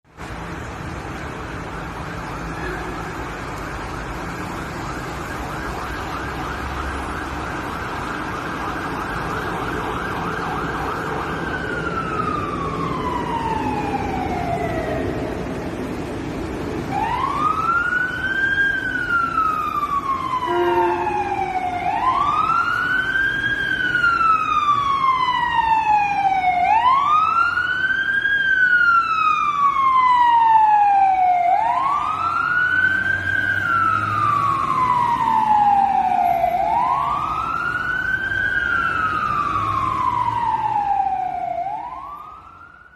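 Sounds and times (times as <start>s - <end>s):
siren wailing: 1.6s - 16.0s, 16.8s - 42.9s.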